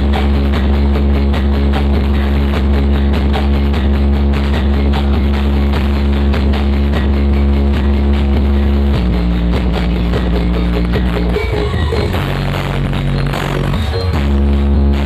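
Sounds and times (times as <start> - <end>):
music over a loud sound system: 0.0 - 15.0.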